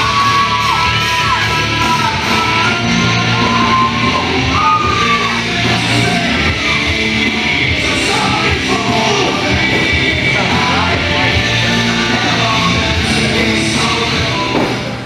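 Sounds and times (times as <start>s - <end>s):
rock song with singing and guitar: 0.0s - 15.0s.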